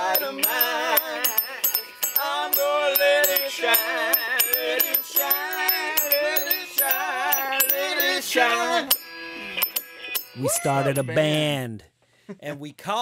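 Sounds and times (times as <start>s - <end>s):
ticking percussion beat: 0.0s - 11.5s.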